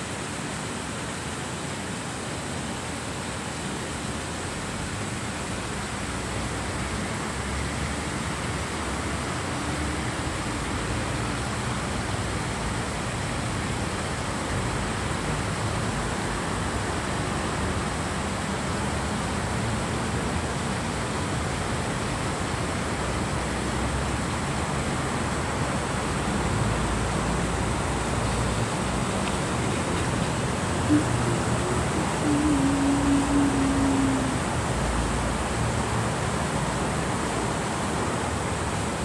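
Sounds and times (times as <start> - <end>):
water cascading down a fountain: 0.0 - 39.0.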